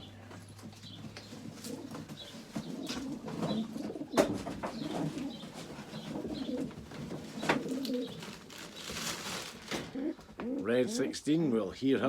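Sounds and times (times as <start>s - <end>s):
pigeons cooing: 0.0s - 11.3s.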